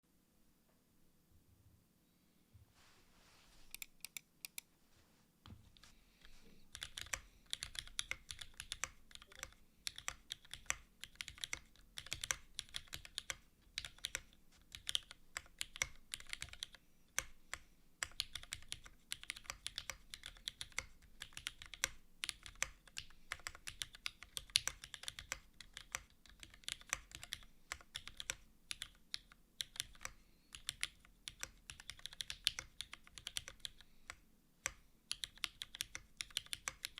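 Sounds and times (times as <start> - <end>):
mechanical keyboard typing: 6.7 - 36.9.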